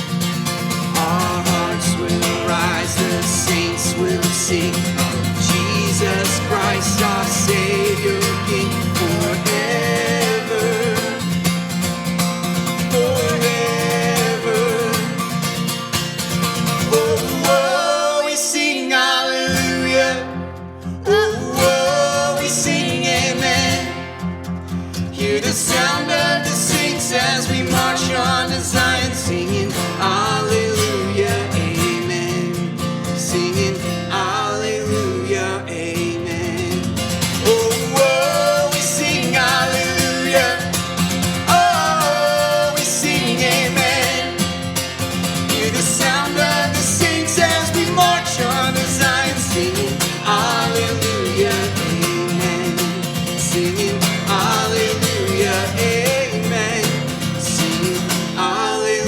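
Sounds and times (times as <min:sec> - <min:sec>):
acoustic guitar: 0:00.0 - 0:59.0
people singing: 0:00.5 - 0:15.8, 0:16.4 - 0:24.3, 0:24.9 - 0:59.0.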